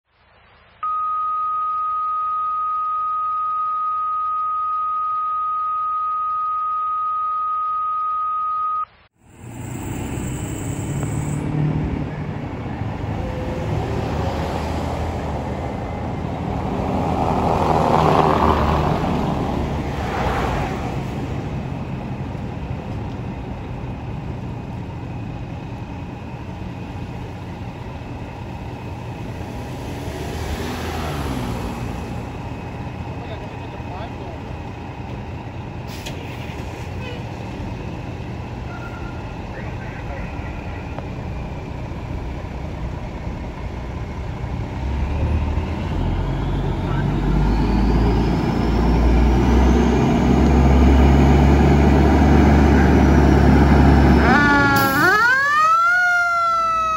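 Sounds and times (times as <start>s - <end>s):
diesel engine low rumble: 9.1s - 56.9s.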